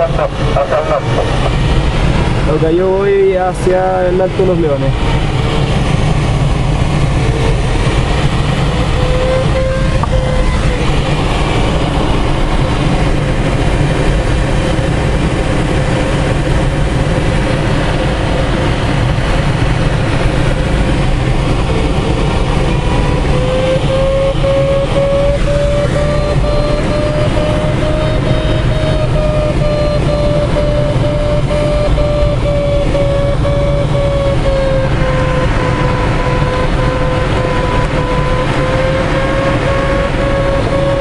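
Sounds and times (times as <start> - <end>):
rushing airflow noise: 0.0 - 41.0
variometer audio tone: 0.0 - 41.0.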